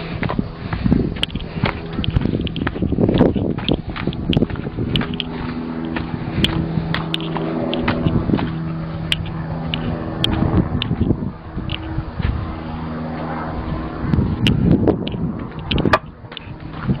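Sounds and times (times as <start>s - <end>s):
engine running steadily: 0.0s - 17.0s
sharp clicks and knocks: 0.2s - 12.0s, 14.4s - 17.0s.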